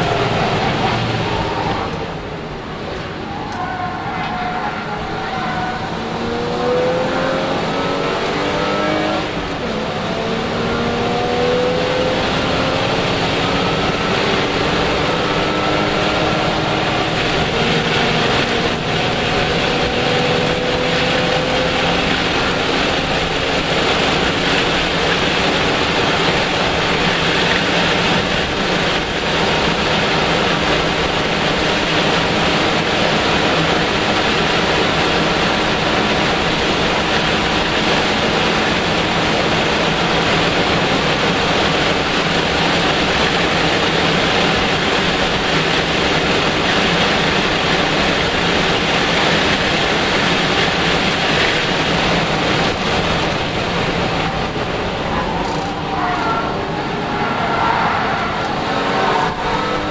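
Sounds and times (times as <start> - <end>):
race car engine accelerating: 0.0 - 59.9
wind and road noise: 0.0 - 59.9.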